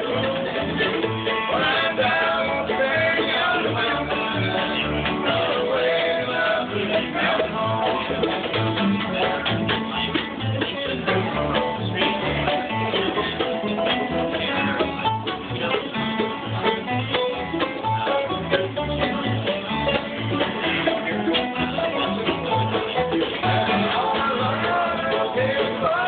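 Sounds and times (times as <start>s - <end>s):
acoustic guitar strumming: 0.0s - 26.0s
banjo: 0.0s - 26.0s
mandolin: 0.0s - 26.0s
upright bass plucking: 0.0s - 26.0s.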